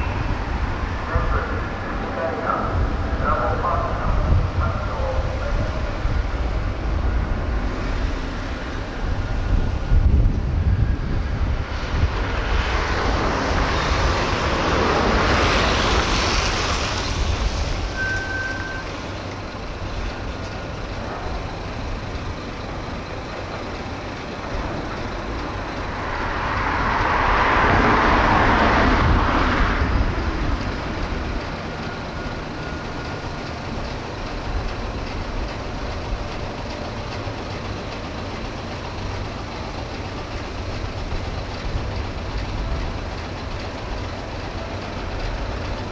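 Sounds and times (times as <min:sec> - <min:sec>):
steady low traffic rumble: 0:00.0 - 0:45.9
vehicles passing: 0:00.0 - 0:45.9.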